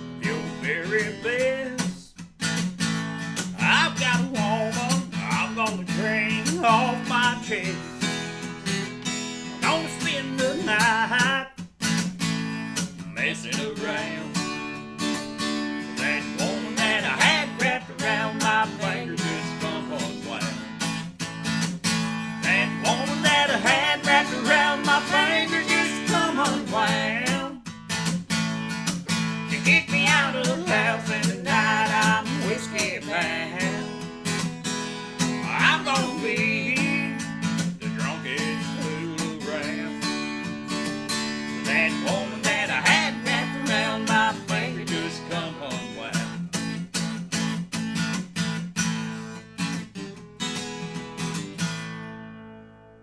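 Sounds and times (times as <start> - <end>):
country music on acoustic guitar: 0.0 - 53.0.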